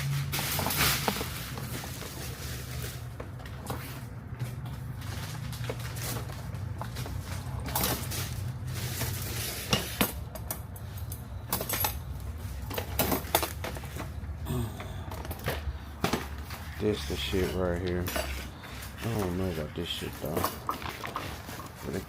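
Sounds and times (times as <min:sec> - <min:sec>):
parts clinking and rustling: 0:00.0 - 0:22.0.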